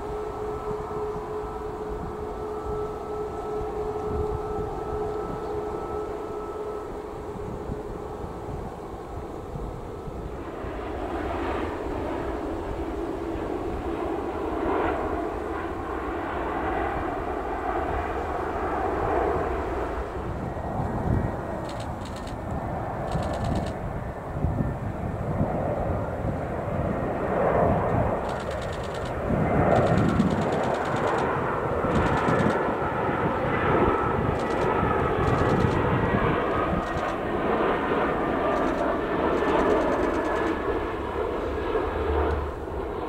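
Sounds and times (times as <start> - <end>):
jet engine rumble with whine: 0.0 - 43.0.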